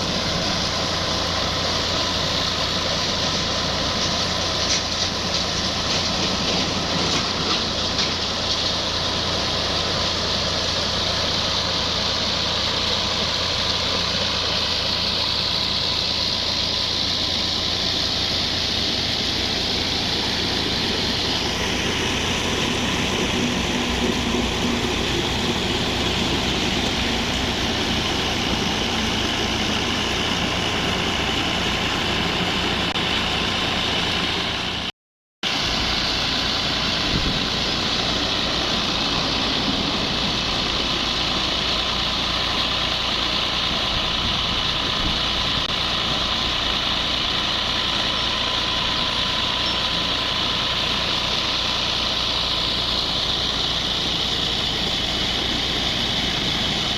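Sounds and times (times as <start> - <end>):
tractor engine running steadily: 0.0 - 56.9.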